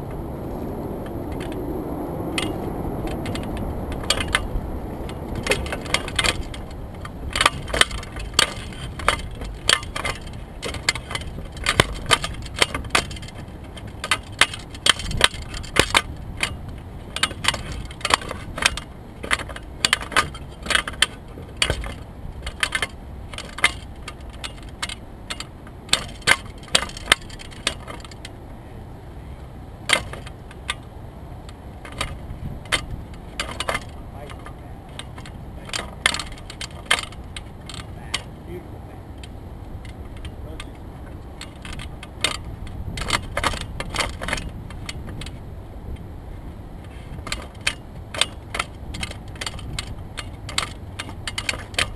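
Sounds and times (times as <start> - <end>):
steady low rumble: 0.0 - 51.9
sharp clicks and rattles: 1.0 - 28.4, 29.4 - 51.9.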